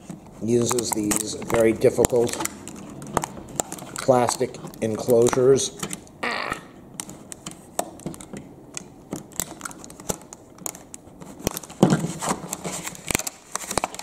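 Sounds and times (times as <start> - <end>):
plastic crackling: 0.0 - 14.0.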